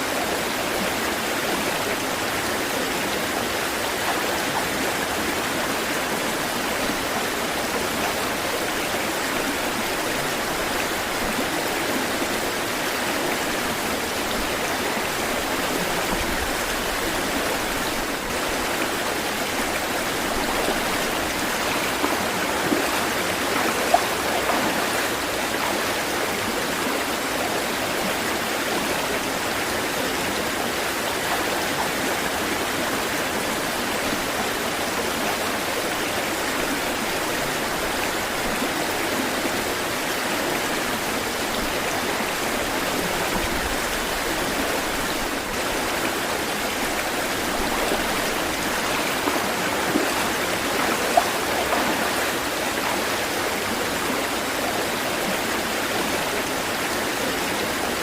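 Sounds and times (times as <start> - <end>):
running water: 0.0 - 58.0
water splashes: 1.5 - 56.7.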